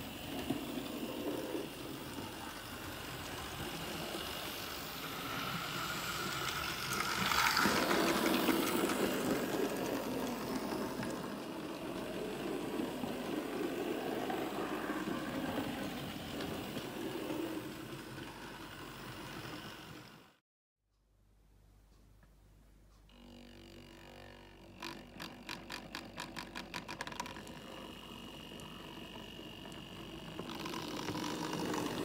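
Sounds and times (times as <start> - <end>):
model train motor whirring: 0.0 - 20.4, 23.1 - 32.0
wheels clattering over track: 0.1 - 20.3, 24.8 - 32.0.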